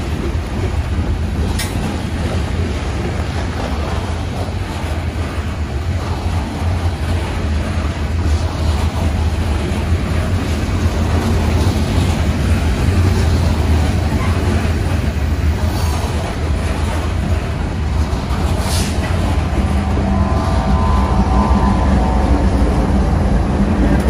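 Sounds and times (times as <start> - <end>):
diesel locomotive rumble: 0.0 - 24.0
train wheel and rail noise: 0.0 - 24.0.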